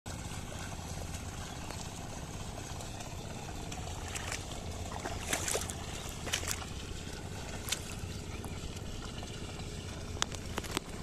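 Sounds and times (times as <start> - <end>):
low background rumble: 0.1 - 11.0
plough sloshing through water: 0.1 - 11.0
sharp splashes: 0.1 - 11.0.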